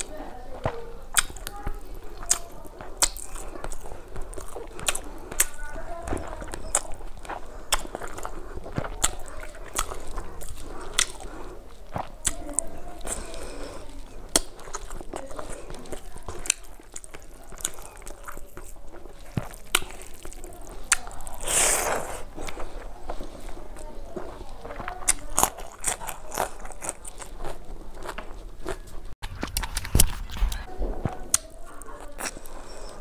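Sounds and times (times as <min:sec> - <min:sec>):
rustling of rice eaten by hand: 0:00.0 - 0:30.5
chewing with lip smacks: 0:00.0 - 0:33.0.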